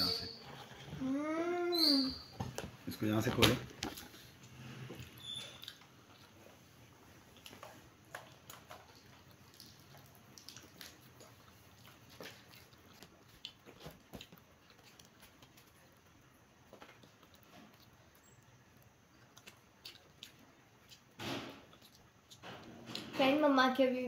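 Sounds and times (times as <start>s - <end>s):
people chewing food: 0.0s - 23.2s.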